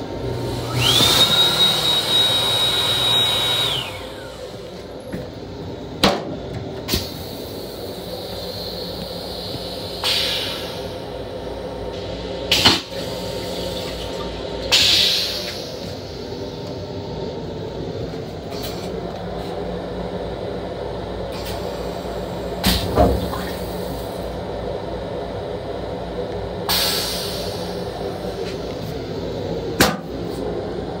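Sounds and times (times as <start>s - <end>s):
train car rumbling: 0.0s - 1.8s, 3.7s - 31.0s.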